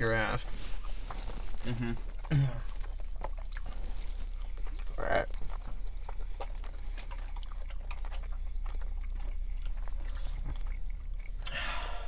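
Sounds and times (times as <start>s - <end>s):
steady low hum: 0.0s - 12.0s
chewing with wet mouth clicks: 0.7s - 12.0s.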